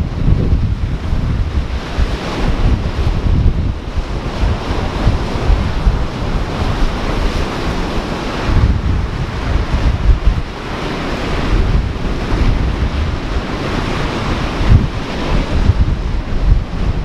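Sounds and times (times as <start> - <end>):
surf washing against shore: 0.0 - 17.0
wind buffeting microphone: 0.0 - 17.0.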